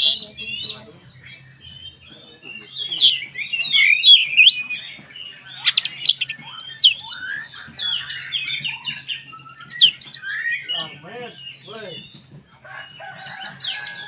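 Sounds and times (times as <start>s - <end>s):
magpie-robin singing: 0.0s - 14.0s.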